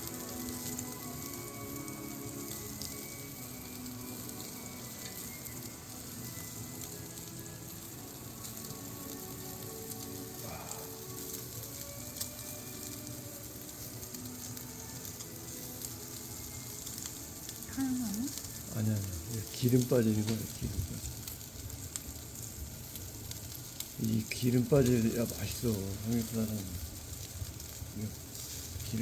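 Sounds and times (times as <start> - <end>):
fat crackling: 0.0 - 29.0
pork sizzling over fire: 0.0 - 29.0.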